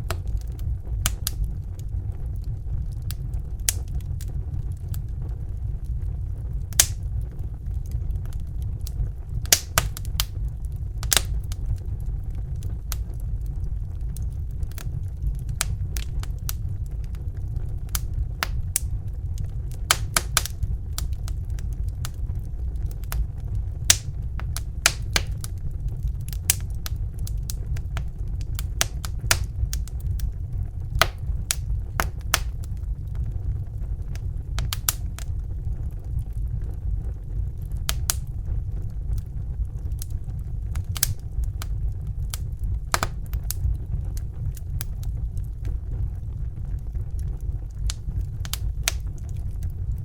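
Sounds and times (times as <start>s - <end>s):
fire crackling and popping: 0.0s - 50.0s
steady low rumble: 0.0s - 50.0s.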